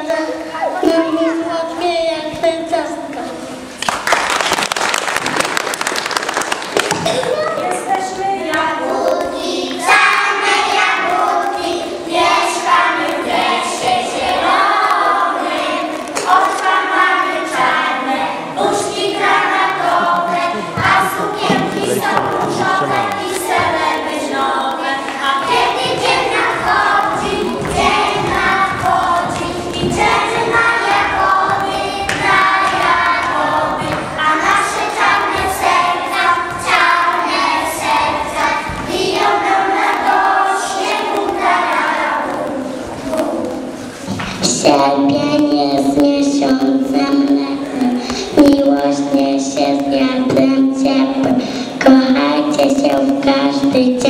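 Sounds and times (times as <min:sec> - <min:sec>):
children singing in unison: 0:07.1 - 0:54.0.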